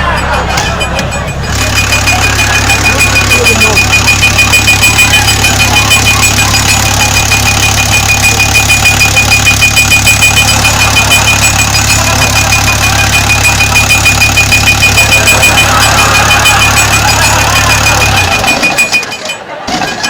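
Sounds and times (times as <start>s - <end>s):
truck engine knocking: 0.0s - 20.0s.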